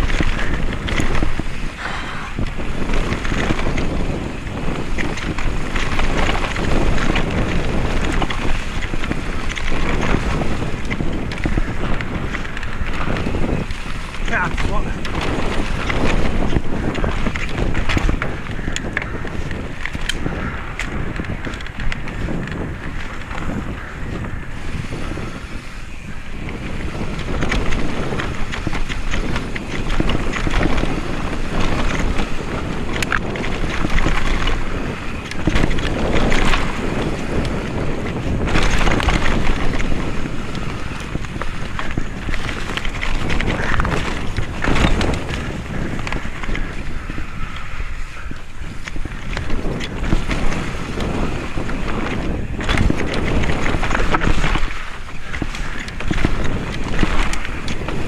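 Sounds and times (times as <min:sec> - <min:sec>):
bike rattling and knocking: 0:00.0 - 0:58.0
bike tyres on dirt: 0:00.0 - 0:58.0
wind rushing over microphone: 0:00.0 - 0:58.0.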